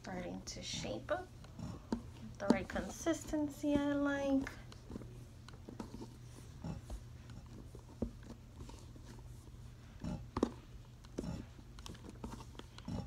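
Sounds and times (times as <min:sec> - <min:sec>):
dough squishing: 0:00.0 - 0:13.0
faint low hum: 0:00.0 - 0:13.0.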